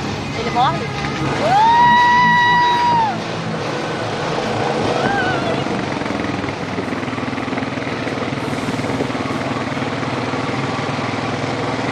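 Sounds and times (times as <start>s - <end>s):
off-road vehicle engine running: 0.0s - 11.9s.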